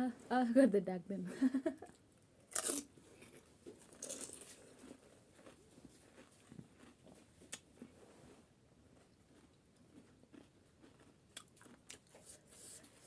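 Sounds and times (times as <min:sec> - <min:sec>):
soft chewing with crunches: 0:01.9 - 0:13.0.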